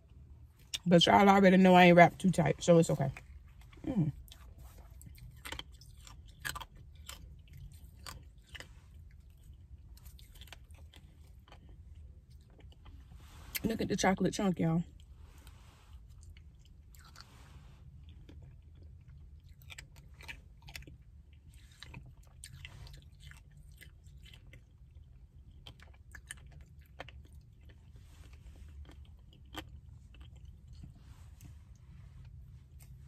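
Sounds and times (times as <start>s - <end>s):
soft chewing: 0.0s - 0.9s, 2.1s - 14.1s, 14.8s - 33.0s
low steady hum: 0.0s - 33.0s.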